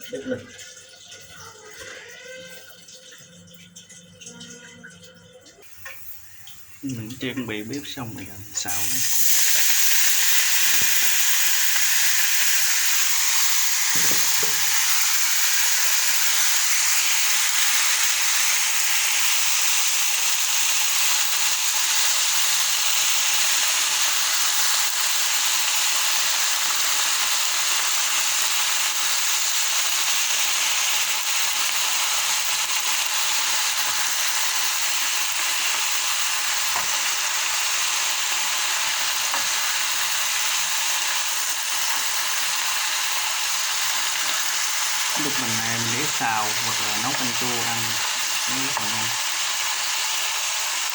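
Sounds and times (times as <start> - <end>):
stems sizzling in a hot pan: 5.5 - 50.9.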